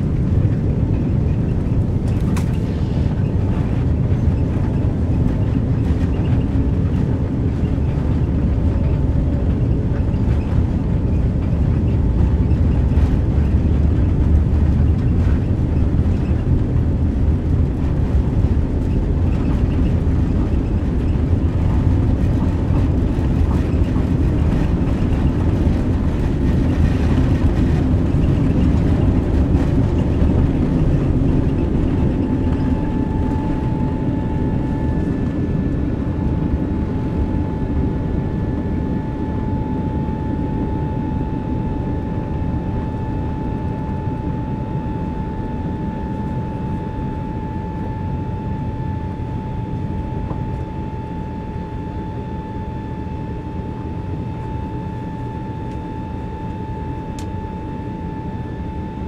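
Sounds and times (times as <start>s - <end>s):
aircraft cabin engine rumble: 0.0s - 59.0s
faint steady whine: 0.0s - 59.0s.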